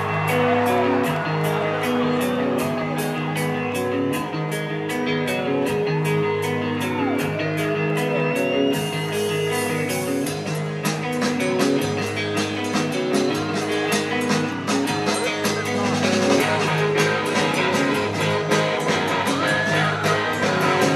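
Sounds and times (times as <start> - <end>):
rock music with electric guitar: 0.0 - 20.9.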